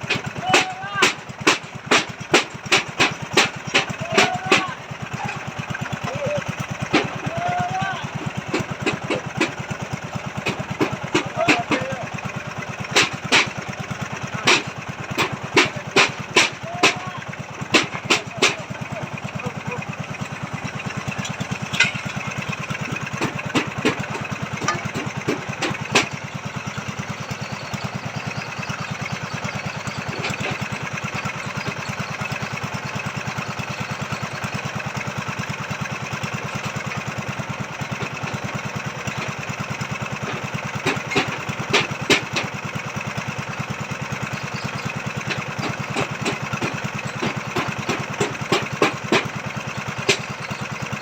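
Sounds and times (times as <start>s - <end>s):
auger drill engine running: 0.0s - 51.0s
sharp knocks and clanks: 0.0s - 51.0s.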